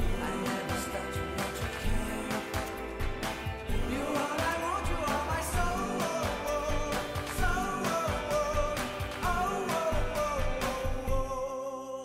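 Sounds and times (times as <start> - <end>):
pop song with singing: 0.0 - 12.0.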